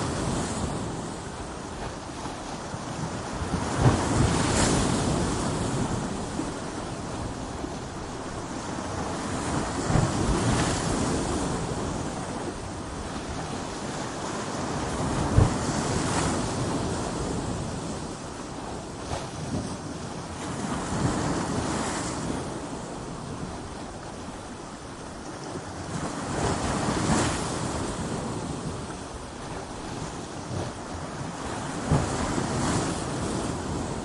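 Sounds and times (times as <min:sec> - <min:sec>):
heavy waves thudding: 0:00.0 - 0:34.0
surf washing on rocks: 0:00.0 - 0:34.0.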